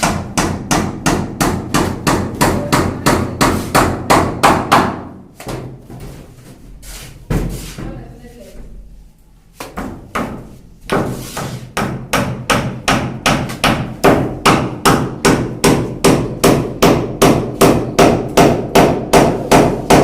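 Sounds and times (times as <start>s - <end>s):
rhythmic hammering: 0.0s - 5.9s, 9.6s - 20.0s.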